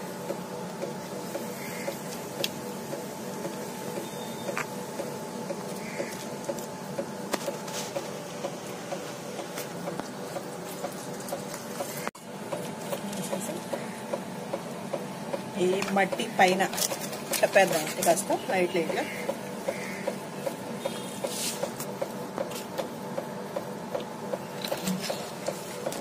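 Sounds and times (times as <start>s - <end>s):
small machine humming: 0.0s - 26.0s
light regular ticking: 0.2s - 26.0s.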